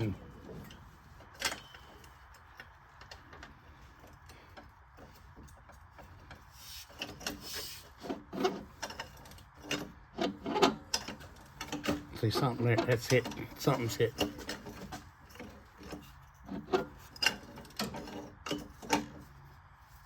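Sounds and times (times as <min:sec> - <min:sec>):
engine clicks and knocks: 0:00.0 - 0:19.4
faint metal scraping: 0:00.0 - 0:20.0.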